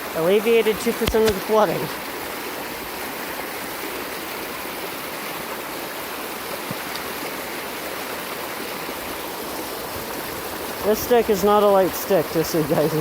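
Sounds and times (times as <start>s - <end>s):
floodwater rushing and splashing: 0.0s - 13.0s.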